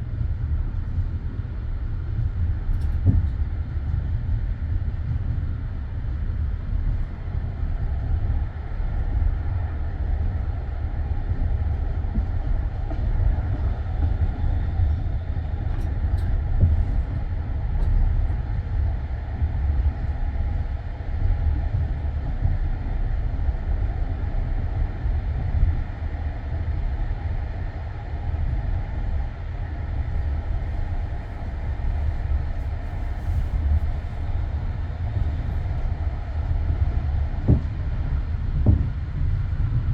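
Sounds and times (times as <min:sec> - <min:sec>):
railway carriage rumbling on rails: 0:00.0 - 0:39.9.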